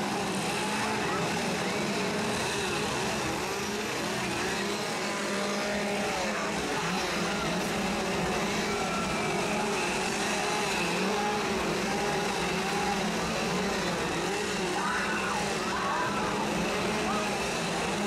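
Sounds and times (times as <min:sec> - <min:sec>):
chainsaws revving: 0:00.0 - 0:18.0
crowd voices: 0:00.0 - 0:18.0.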